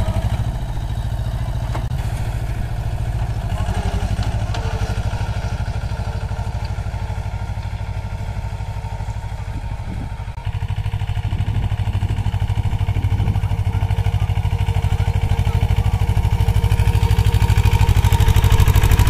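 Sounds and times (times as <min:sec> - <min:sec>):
tractor engine chugging: 0:00.0 - 0:19.0.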